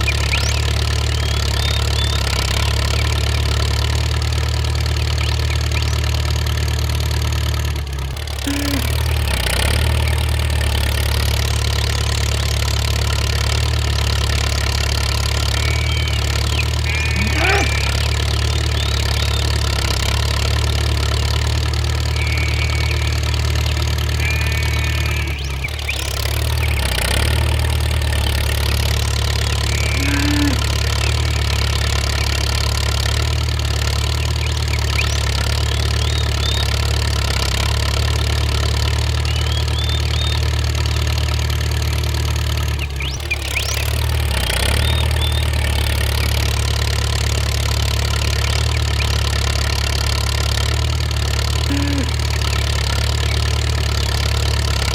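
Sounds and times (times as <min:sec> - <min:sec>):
engine humming steadily: 0:00.0 - 0:54.9.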